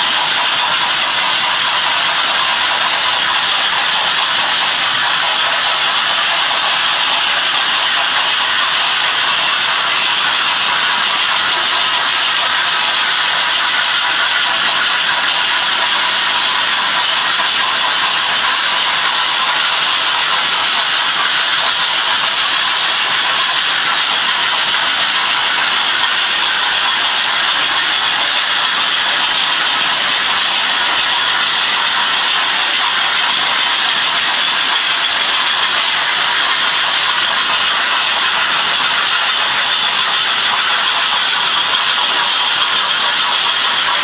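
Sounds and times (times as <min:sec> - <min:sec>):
model trains whirring on track: 0:00.0 - 0:44.0.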